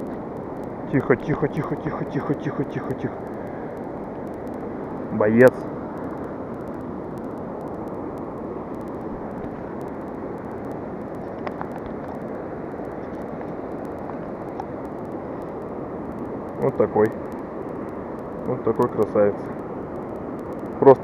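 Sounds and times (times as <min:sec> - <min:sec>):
faint clicks: 0:00.0 - 0:21.0
river rushing over riffle: 0:00.0 - 0:21.0.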